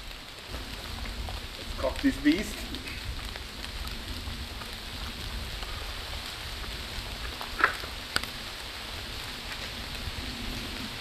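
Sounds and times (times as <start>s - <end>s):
light rain hissing: 0.0s - 11.0s.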